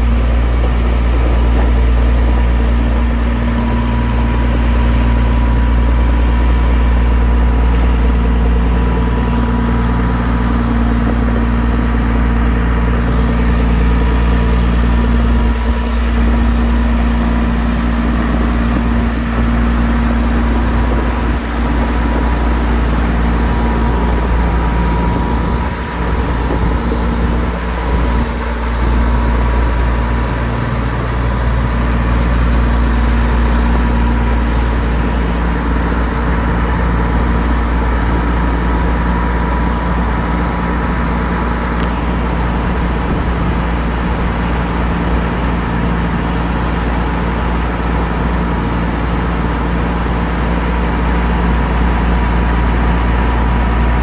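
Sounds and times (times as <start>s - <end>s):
engine running with low rumble: 0.0s - 54.0s.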